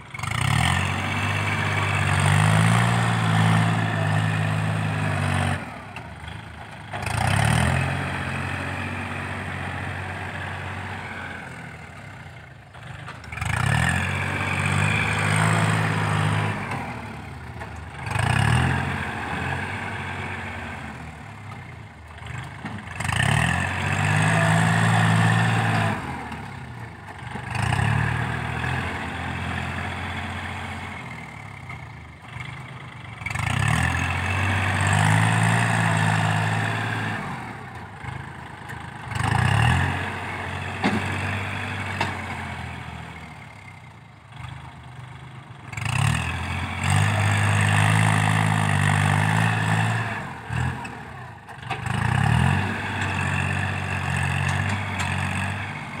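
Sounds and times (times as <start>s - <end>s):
tractor diesel engine working: 0.0s - 56.0s.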